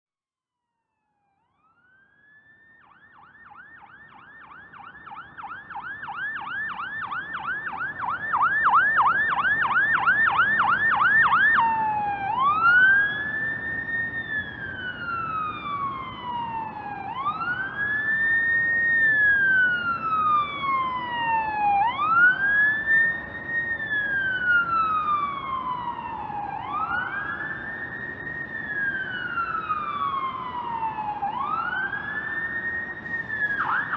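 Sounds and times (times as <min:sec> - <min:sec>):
ambulance siren: 0:00.9 - 0:33.9
road noise rumble: 0:01.7 - 0:33.9.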